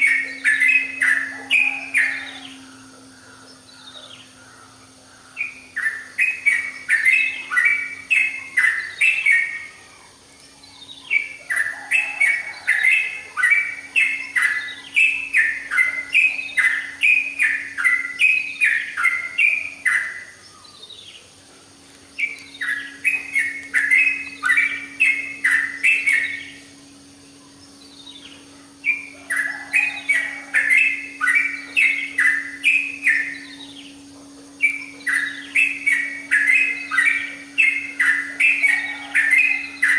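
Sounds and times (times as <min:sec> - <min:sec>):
bird singing chattering notes: 0:00.0 - 0:39.9
faint steady hum: 0:00.0 - 0:39.9.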